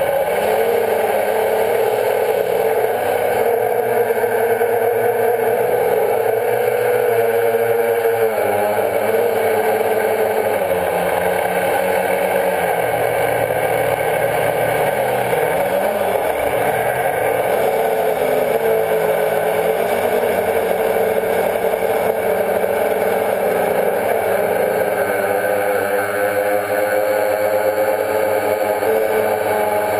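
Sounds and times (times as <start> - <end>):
drone motors whirring: 0.0 - 29.9.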